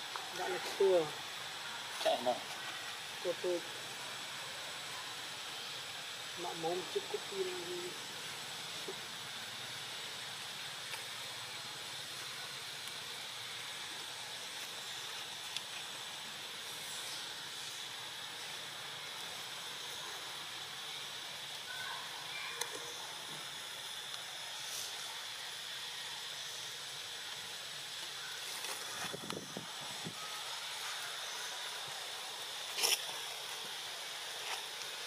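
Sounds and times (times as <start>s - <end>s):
outdoor background hiss: 0.0s - 35.0s.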